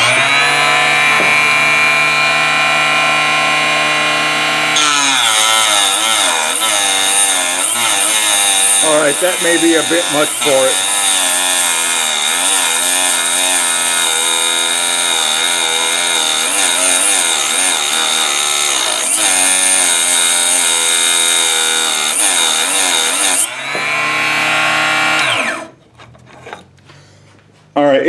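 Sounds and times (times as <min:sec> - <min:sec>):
cut-off saw cutting aluminum: 0:00.0 - 0:25.8
saw motor whining: 0:00.0 - 0:26.7.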